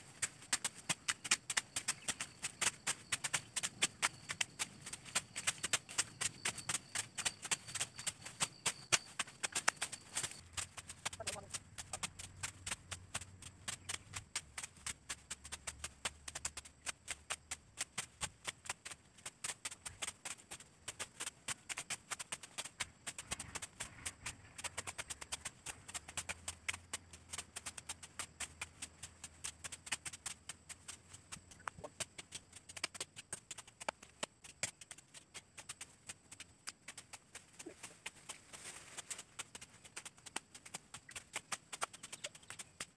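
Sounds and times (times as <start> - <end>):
rapid sharp clicking: 0.0 - 42.9.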